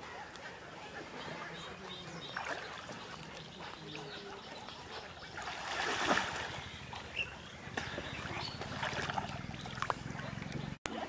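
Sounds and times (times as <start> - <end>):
water sloshing and splashing: 1.0 - 11.0.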